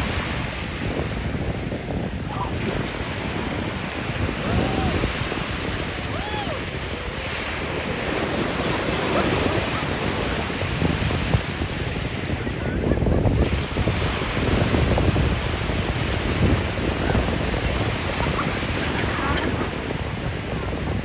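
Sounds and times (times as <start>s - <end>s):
sea waves breaking: 0.0s - 21.0s
wind buffeting microphone: 0.0s - 21.0s.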